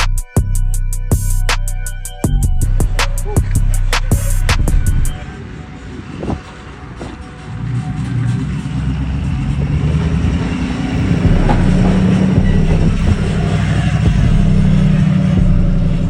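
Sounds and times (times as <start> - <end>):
tyre and road noise: 0.0 - 16.0
vehicle engine drone: 0.0 - 16.0.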